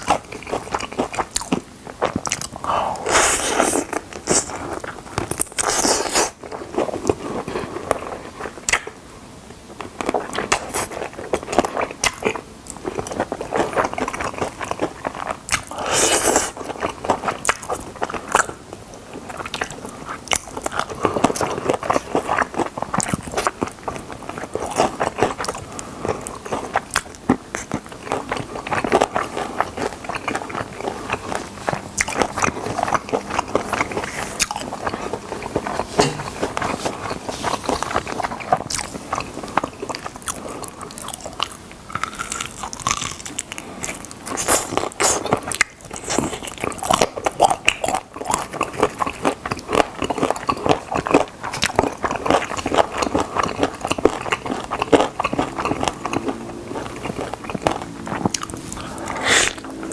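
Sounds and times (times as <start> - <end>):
crunching and chewing chicken: 0.0 - 59.9.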